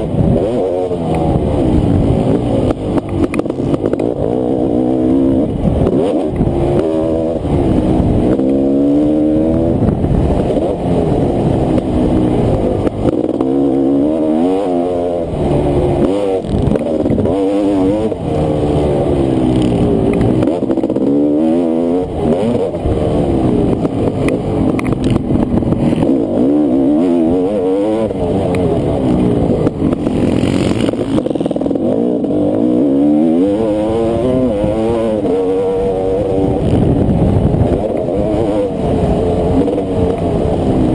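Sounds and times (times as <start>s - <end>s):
motocross engine revving: 0.0s - 40.9s.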